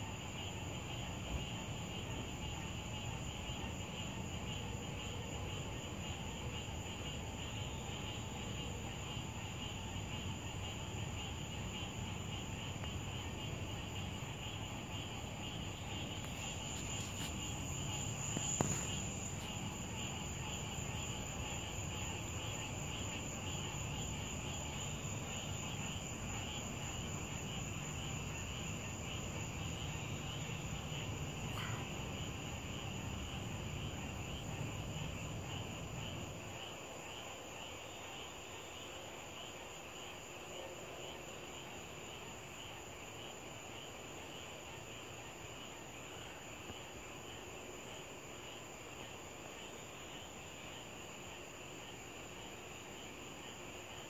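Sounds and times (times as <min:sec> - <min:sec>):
night insects chorus: 0:00.0 - 0:54.0.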